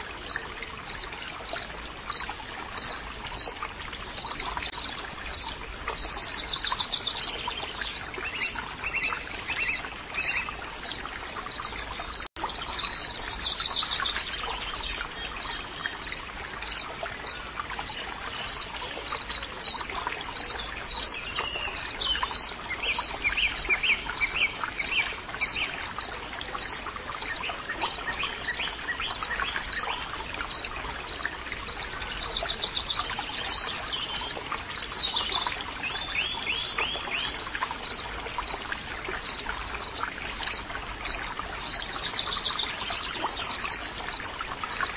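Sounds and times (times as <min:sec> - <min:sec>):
stream water running: 0:00.0 - 0:44.9.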